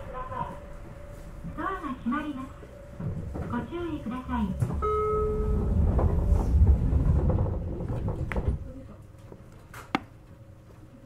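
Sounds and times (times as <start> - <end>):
train car low rumble: 0.0 - 9.5.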